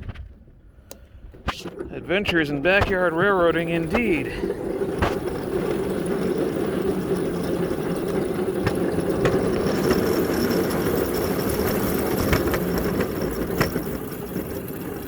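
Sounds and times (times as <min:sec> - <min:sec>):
sharp clicks and knocks: 0:00.0 - 0:14.0
small engine running: 0:02.9 - 0:15.0.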